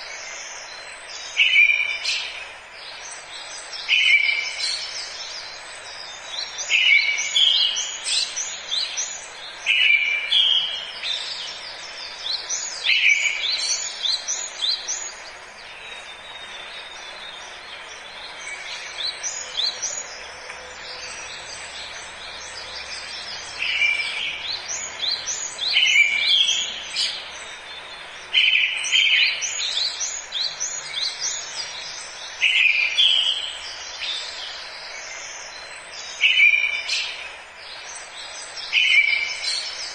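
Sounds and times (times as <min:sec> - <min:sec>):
forest ambience hiss: 0:00.0 - 0:39.9
songbird singing: 0:00.0 - 0:39.9.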